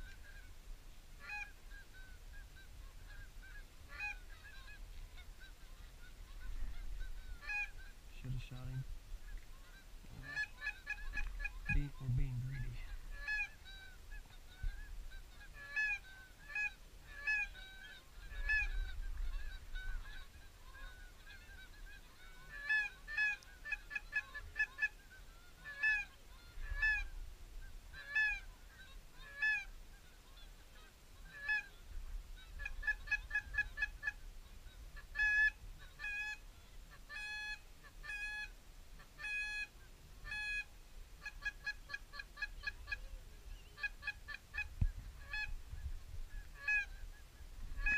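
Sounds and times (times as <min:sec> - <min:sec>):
low rumble of wind: 0:00.0 - 0:47.9
geese honking: 0:01.2 - 0:27.2, 0:27.9 - 0:45.6, 0:46.3 - 0:47.9.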